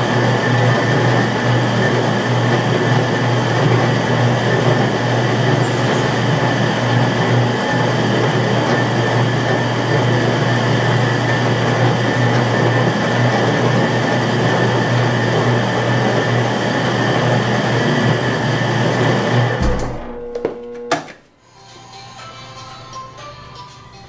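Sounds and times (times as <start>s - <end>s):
dough mixer motor hum: 0.0s - 20.8s.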